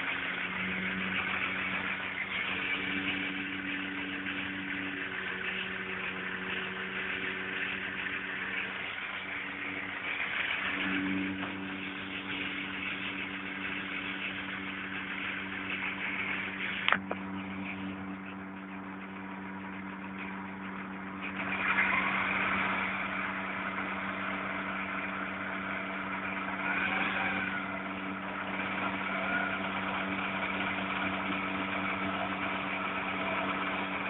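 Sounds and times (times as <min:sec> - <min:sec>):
car engine misfiring: 0:00.0 - 0:34.0.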